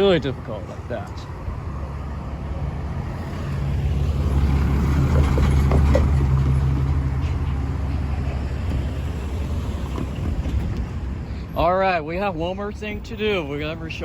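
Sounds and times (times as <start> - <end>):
vehicle passing engine rumble: 0.0 - 14.0.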